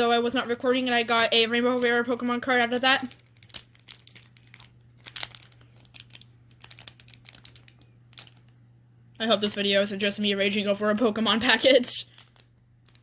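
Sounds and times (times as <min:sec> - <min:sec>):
foil packet crinkling: 0:00.2 - 0:08.6, 0:09.2 - 0:10.1, 0:11.3 - 0:13.0.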